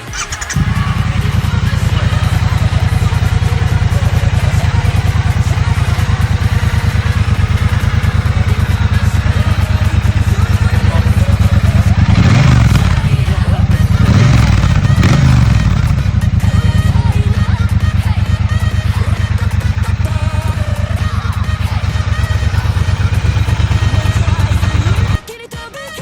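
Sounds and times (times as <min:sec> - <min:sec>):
motorcycle engine revving: 0:00.0 - 0:25.3.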